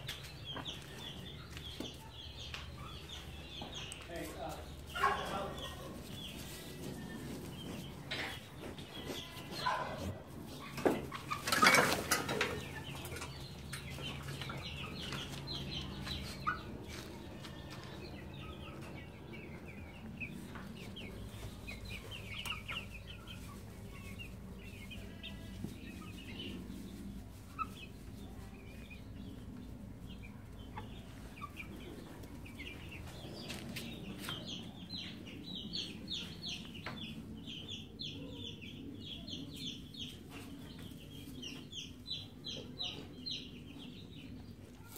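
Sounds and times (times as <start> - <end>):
baby chicks peeping: 0.0 - 44.9
chickens clucking: 0.0 - 44.9.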